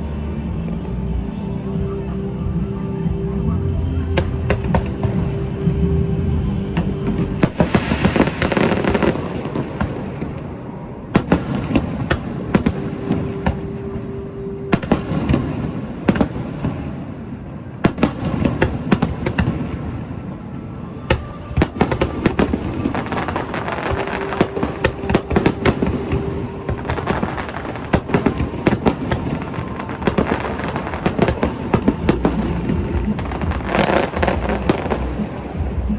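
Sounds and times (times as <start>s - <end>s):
fireworks bangs and crackling: 0.4s - 35.9s.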